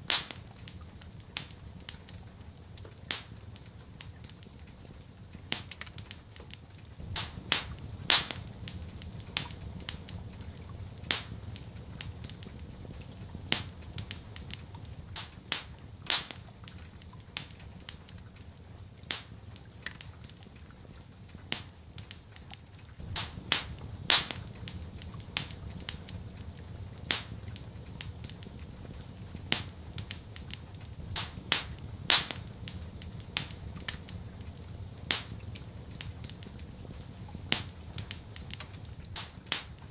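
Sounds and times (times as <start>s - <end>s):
low steady rumble: 0.0s - 39.9s
wood fire crackling: 0.0s - 39.9s.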